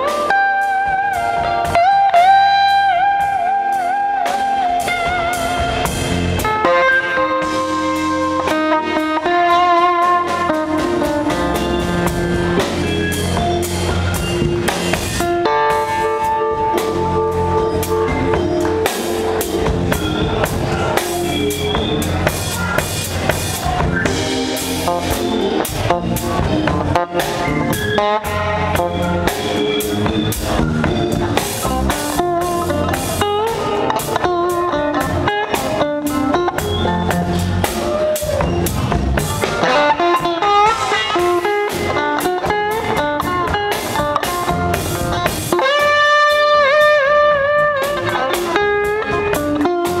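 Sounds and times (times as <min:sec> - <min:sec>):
bass: 0:00.0 - 0:50.0
drum kit: 0:00.0 - 0:50.0
electric guitar lead: 0:00.0 - 0:50.0.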